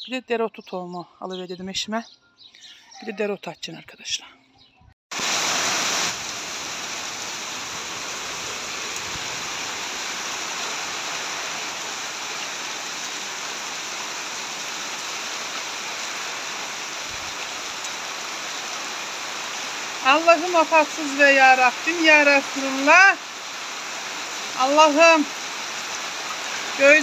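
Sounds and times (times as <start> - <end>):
heavy rain pouring: 5.1 - 27.0.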